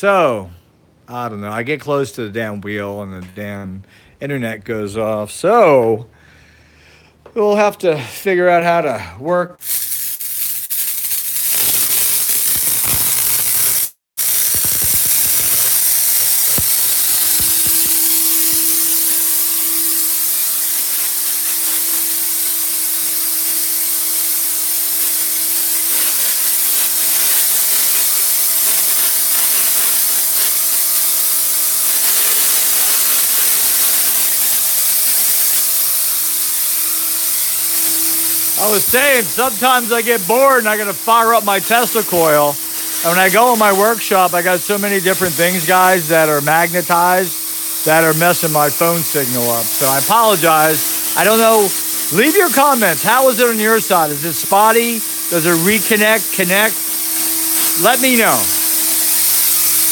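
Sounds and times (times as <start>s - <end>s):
tesla coil hissing: 9.6s - 59.9s.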